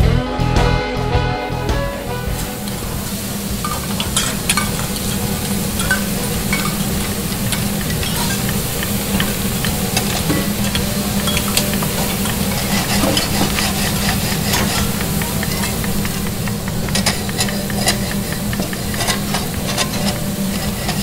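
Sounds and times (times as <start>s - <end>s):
food sizzling: 1.5s - 21.0s.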